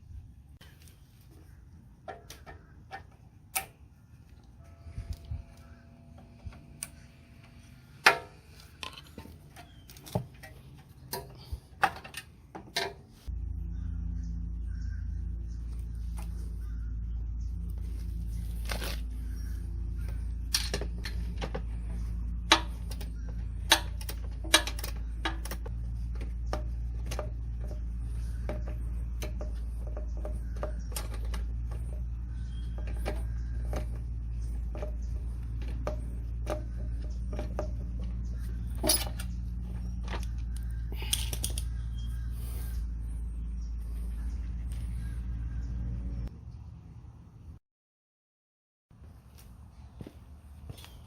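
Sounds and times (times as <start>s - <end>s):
steady low hum: 0.0s - 47.6s.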